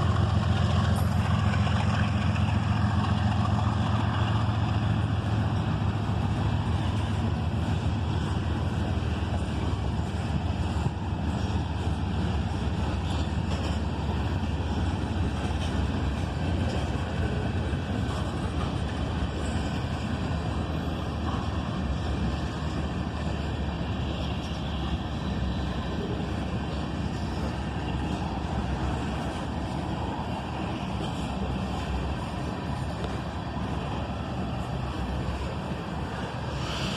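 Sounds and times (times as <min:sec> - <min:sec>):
freight train rumbling past: 0:00.0 - 0:36.9.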